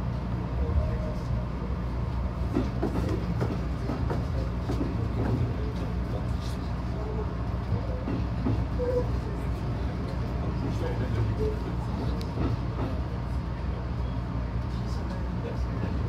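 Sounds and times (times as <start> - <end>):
train running gear drone: 0.0 - 16.0.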